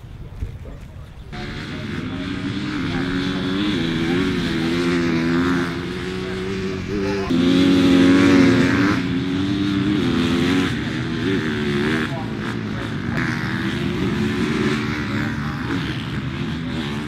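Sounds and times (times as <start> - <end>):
motocross bikes revving past: 1.2 - 17.0.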